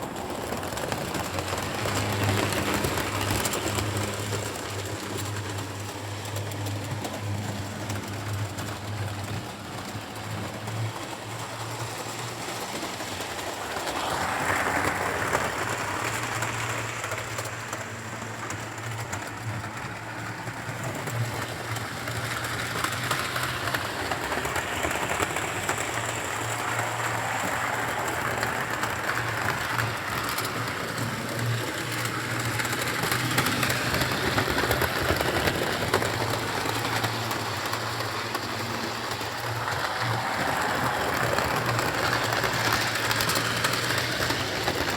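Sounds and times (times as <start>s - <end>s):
model train motor hum: 0.0s - 44.9s
wheels clicking over rail joints: 0.0s - 44.9s.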